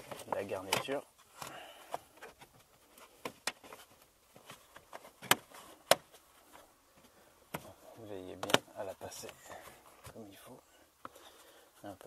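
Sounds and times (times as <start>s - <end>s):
handling clicks and rustles: 0.0s - 12.0s.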